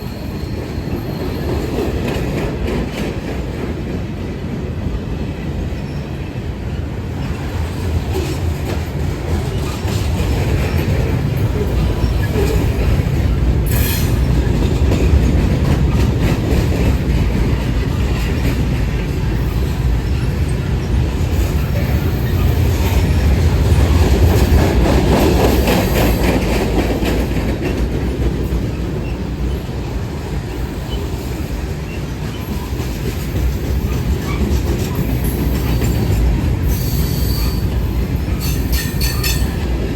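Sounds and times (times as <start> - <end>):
train rumbling past: 0.0 - 39.9
wheels clacking over rail joints: 7.2 - 39.9.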